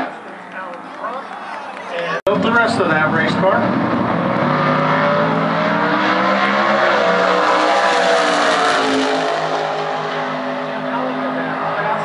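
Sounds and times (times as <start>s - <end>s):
drag car engines at full throttle: 2.3s - 12.0s.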